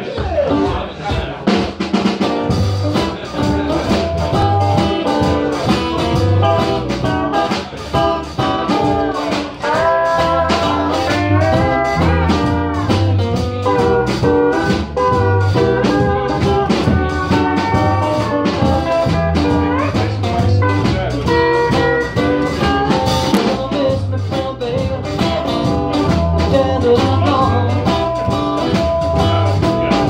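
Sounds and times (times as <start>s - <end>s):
acoustic bass guitar: 0.0s - 30.0s
sliding lead melody: 1.9s - 30.0s
strummed acoustic guitar: 2.2s - 30.0s.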